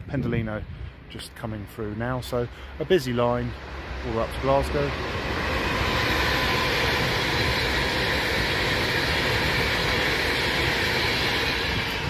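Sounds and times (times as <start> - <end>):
train rushing through station: 1.2 - 12.0.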